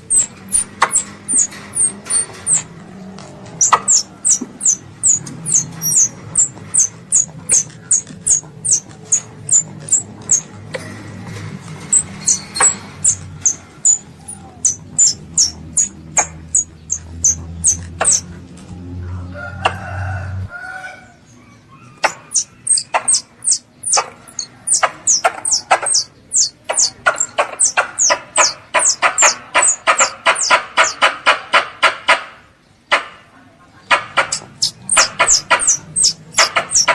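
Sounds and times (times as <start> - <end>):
squirrel chirping: 0.0 - 2.7, 3.5 - 10.9, 11.9 - 18.3, 21.9 - 32.2, 33.9 - 36.9.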